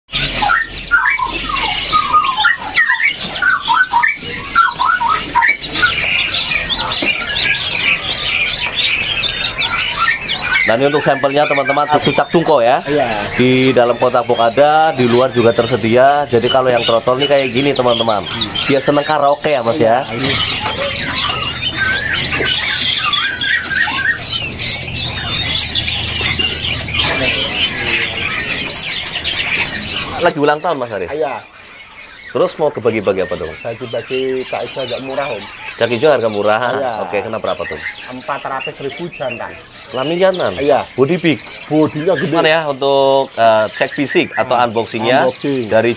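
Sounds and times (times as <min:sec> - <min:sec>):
many birds chattering: 0:00.1 - 0:45.9
songbirds whistling: 0:00.1 - 0:45.9.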